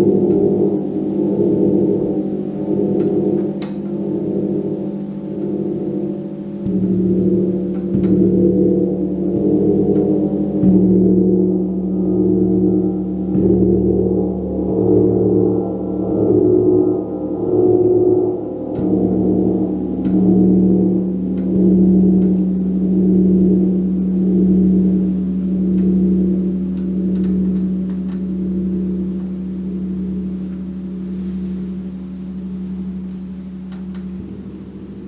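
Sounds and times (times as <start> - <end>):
gong ringing: 0.0 - 35.0.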